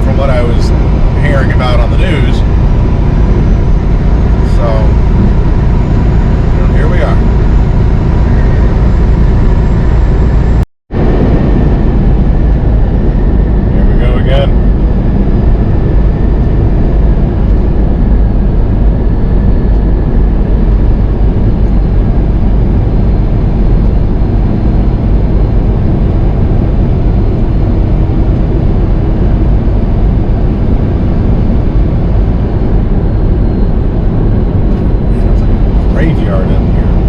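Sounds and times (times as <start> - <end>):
truck diesel engine drone: 0.0 - 37.0
tyre and road noise: 0.0 - 37.0.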